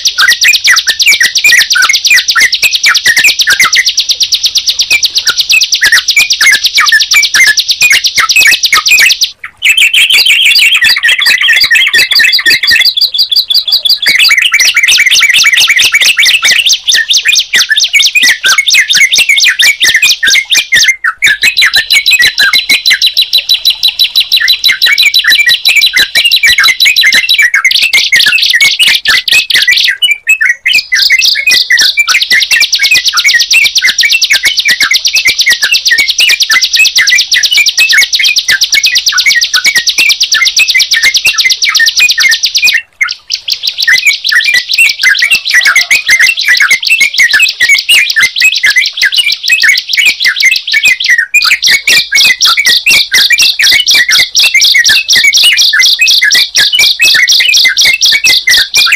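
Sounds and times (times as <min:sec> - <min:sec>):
birds chirping and trilling: 0:00.0 - 0:58.9.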